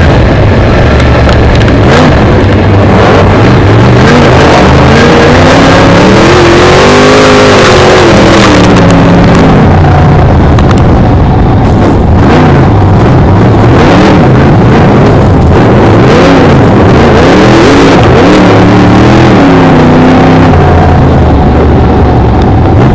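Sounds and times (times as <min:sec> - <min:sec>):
racing car engine revving: 0:00.0 - 0:22.9.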